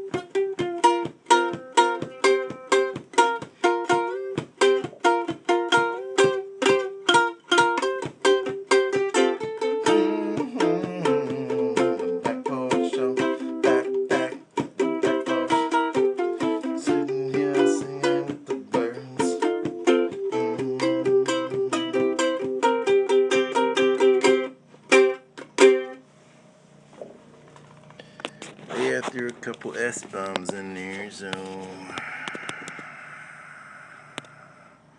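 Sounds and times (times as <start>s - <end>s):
acoustic guitar strumming blues: 0.0s - 26.0s, 28.0s - 33.0s.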